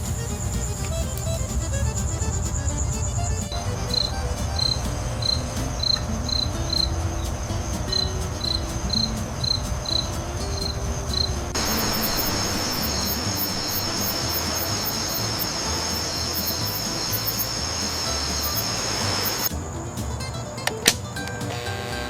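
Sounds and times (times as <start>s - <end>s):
low rumble: 0.0s - 19.3s
high insect trill: 0.0s - 20.4s
crickets chirping: 0.0s - 20.7s.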